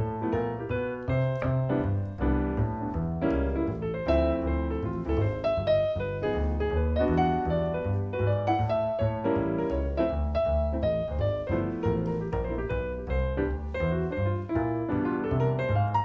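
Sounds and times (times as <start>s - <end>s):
low bass line: 0.0s - 16.0s
piano music: 0.0s - 16.0s.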